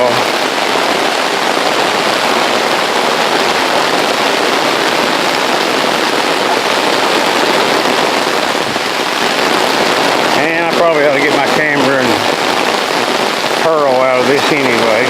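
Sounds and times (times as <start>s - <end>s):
heavy rain downpour: 0.0s - 15.0s.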